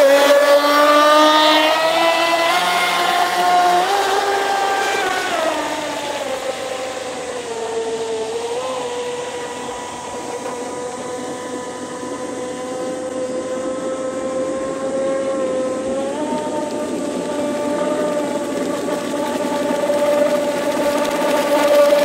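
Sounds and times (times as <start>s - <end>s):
model speedboat motor whining: 0.0s - 22.0s.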